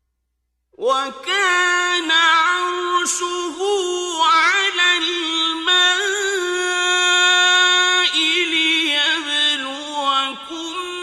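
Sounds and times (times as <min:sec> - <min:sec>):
man chanting melodic recitation: 0:00.8 - 0:11.0.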